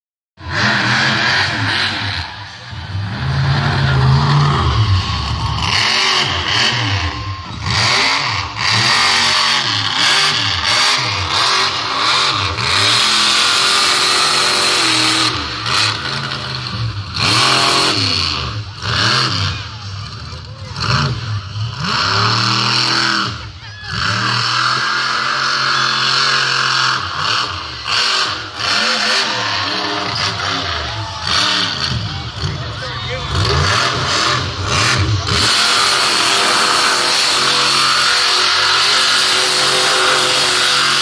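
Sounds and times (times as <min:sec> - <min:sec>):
monster truck engine revving: 0:00.4 - 0:41.0.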